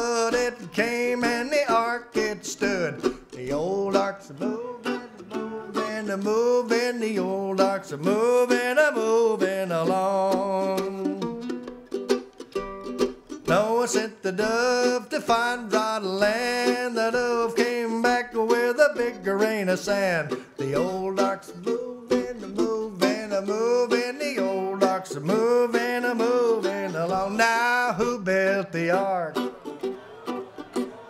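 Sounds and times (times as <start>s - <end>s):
mandolin bluegrass melody: 0.0s - 31.0s.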